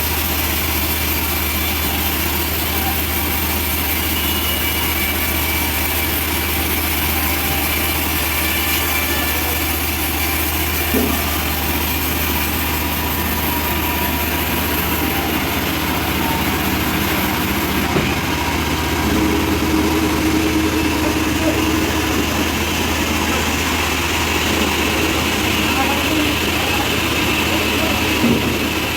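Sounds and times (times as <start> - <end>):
band sawmill engine humming: 0.0 - 28.9.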